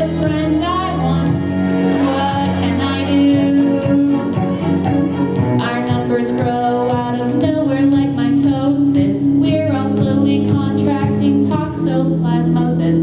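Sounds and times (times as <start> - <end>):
woman singing into a microphone: 0.0 - 4.8, 5.6 - 13.0
low cello notes: 0.0 - 12.9.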